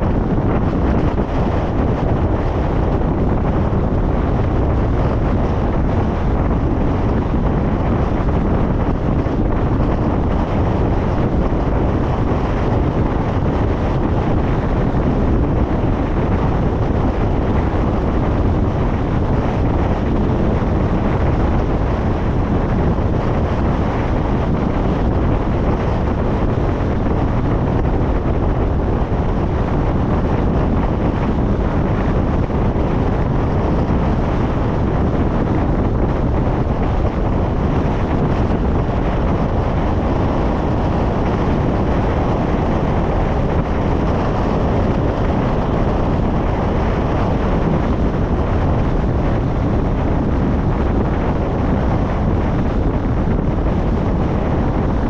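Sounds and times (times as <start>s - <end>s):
car road noise: 0.0s - 55.0s
wind rushing over microphone: 0.0s - 55.0s.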